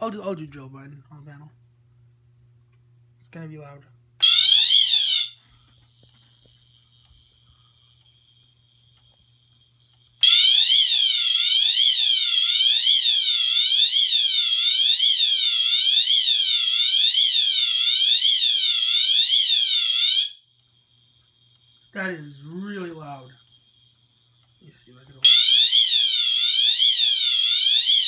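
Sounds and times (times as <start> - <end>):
fire alarm siren wail: 4.2 - 28.0.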